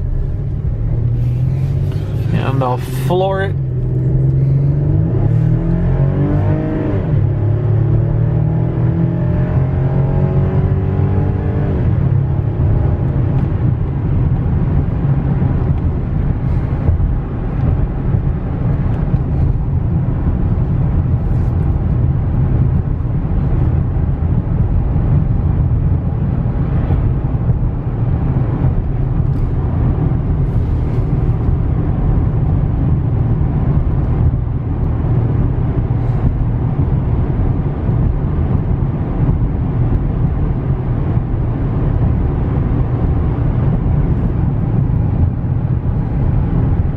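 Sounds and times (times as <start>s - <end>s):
pickup engine and road noise: 0.0s - 46.9s.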